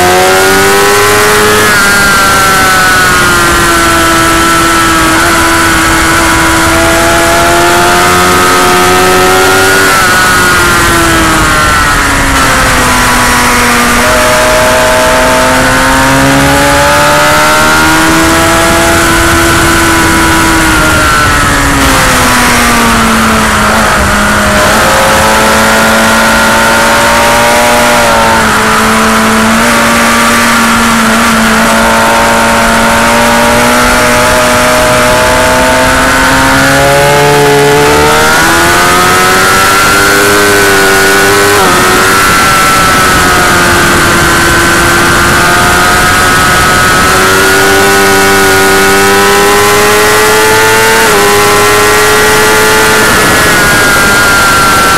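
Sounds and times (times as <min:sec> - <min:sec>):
motorcycle engine revving: 0:00.0 - 0:54.9
rushing wind noise: 0:00.0 - 0:54.9.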